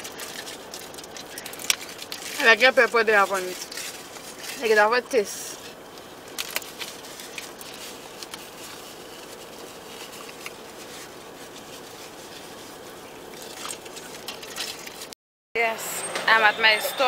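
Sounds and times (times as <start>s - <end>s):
chewing: 0.0s - 4.7s, 5.6s - 15.2s
foil wrapper crinkling: 0.0s - 15.2s.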